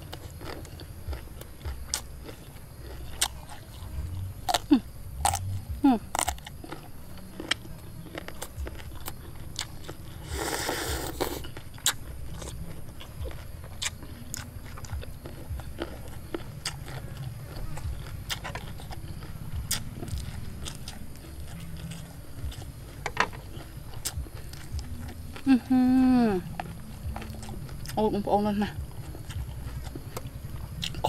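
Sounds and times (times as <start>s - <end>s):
person chewing close to microphone: 0.0s - 31.0s.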